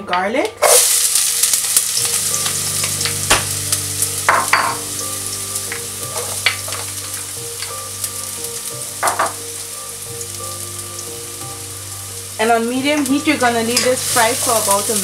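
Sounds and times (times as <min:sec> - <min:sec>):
onion and garlic sizzling in oil: 0:00.6 - 0:15.0.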